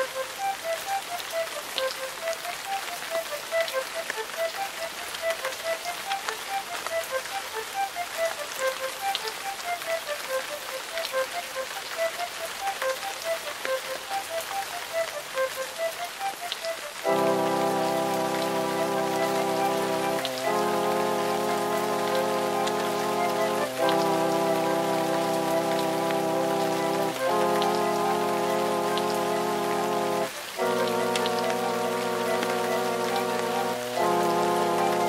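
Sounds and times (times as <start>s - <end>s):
steady hiss with crackles: 0.0s - 35.0s.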